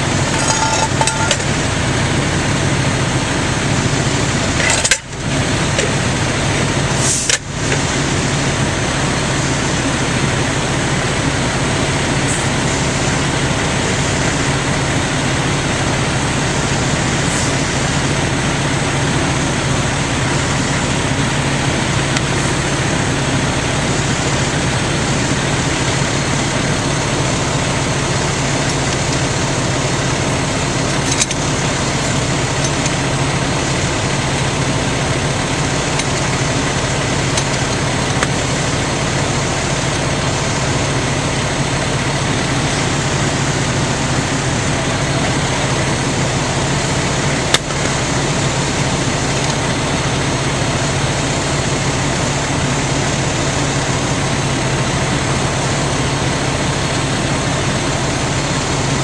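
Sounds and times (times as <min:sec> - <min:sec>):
fire engine running: 0:00.0 - 0:59.0.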